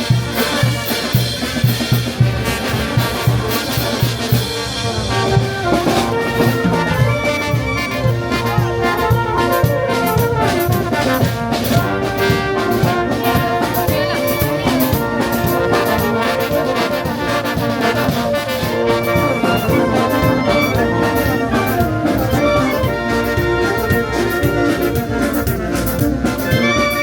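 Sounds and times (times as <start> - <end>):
brass band playing: 0.0 - 27.0
steady drum beat: 0.0 - 27.0.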